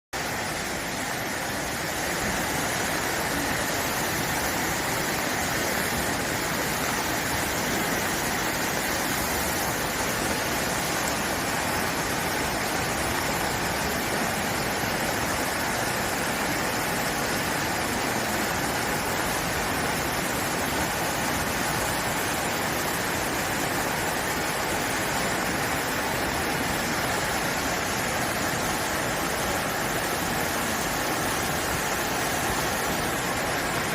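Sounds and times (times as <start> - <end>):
mountain stream rushing: 0.2 - 33.9.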